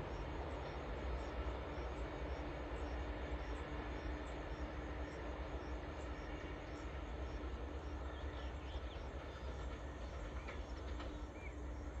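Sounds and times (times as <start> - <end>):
distant train rumbling: 0.0 - 12.0.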